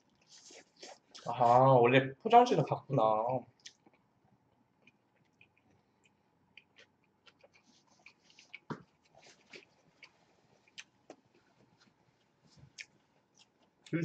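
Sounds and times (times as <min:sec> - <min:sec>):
people chewing with wet smacks: 0:00.0 - 0:01.3, 0:03.5 - 0:14.0.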